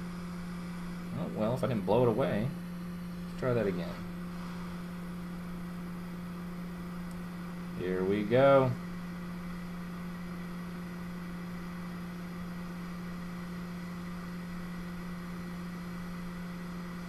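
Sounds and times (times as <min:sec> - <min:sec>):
hot air rework station blowing: 0:00.0 - 0:17.0.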